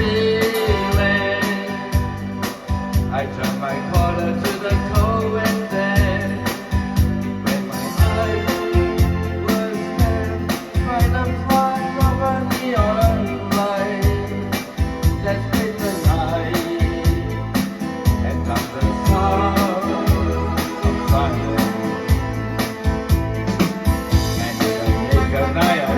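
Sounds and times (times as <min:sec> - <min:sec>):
person singing: 0:00.0 - 0:23.2, 0:23.8 - 0:25.9
bass: 0:00.0 - 0:25.9
drum beat: 0:00.0 - 0:25.9.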